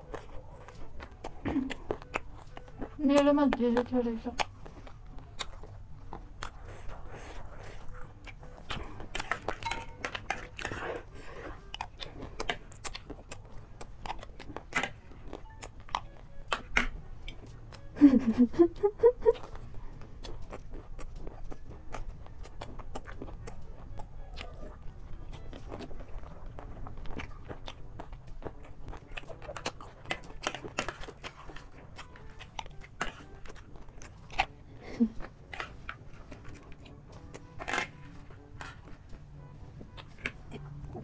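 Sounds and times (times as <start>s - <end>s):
crunching and chewing snacks: 0.0s - 41.0s.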